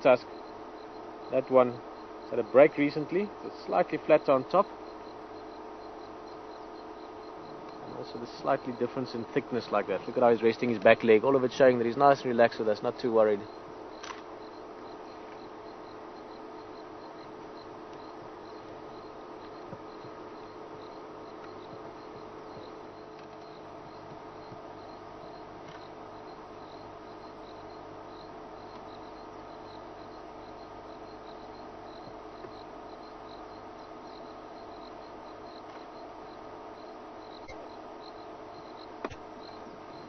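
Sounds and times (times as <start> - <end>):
faint steady hum: 0.0 - 40.0
insect chirping: 0.0 - 40.0.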